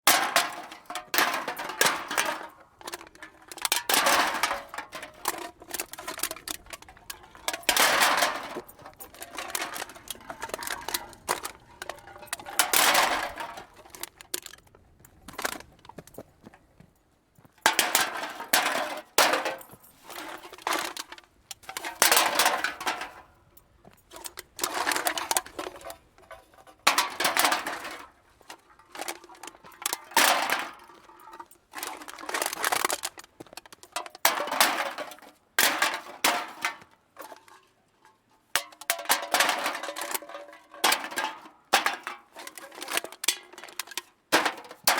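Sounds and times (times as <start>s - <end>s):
cans clattering into a cart: 0.0s - 14.6s, 17.6s - 23.4s, 24.1s - 44.9s.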